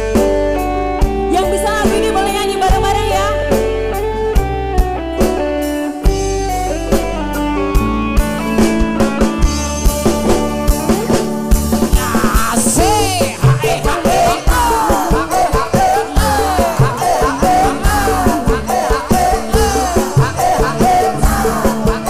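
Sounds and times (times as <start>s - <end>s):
electric guitars: 0.0s - 22.0s
keyboard: 0.0s - 22.0s
steady drum beat: 0.1s - 22.0s.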